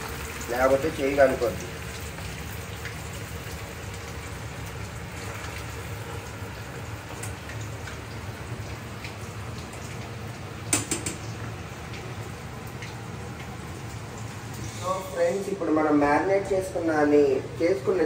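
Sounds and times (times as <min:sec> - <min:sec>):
chicken deep-frying in oil: 0:00.0 - 0:18.0.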